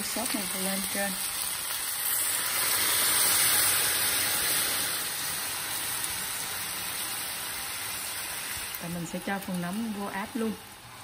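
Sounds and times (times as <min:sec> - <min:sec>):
fish sizzling in hot pan: 0:00.0 - 0:11.0.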